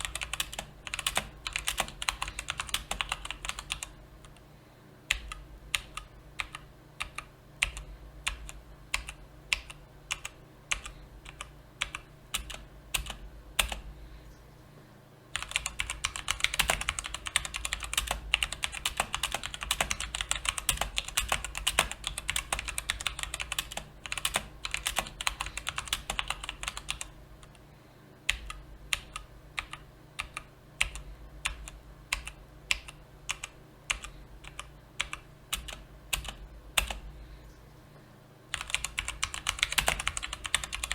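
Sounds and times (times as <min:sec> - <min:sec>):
mechanical keyboard typing: 0:00.0 - 0:04.4, 0:05.1 - 0:13.8, 0:15.4 - 0:27.6, 0:28.3 - 0:37.0, 0:38.5 - 0:40.9.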